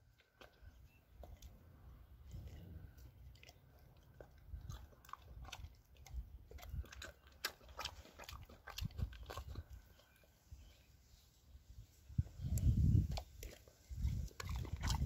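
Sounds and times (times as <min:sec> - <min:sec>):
dog crunching a chew treat: 0:00.0 - 0:10.2, 0:12.8 - 0:15.0.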